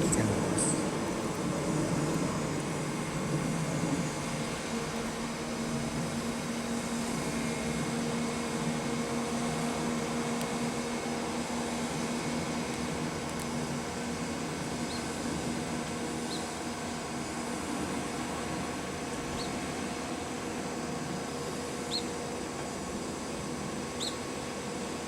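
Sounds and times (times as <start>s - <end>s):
crane diesel engine running: 0.0s - 25.0s
steady hum: 0.0s - 25.0s.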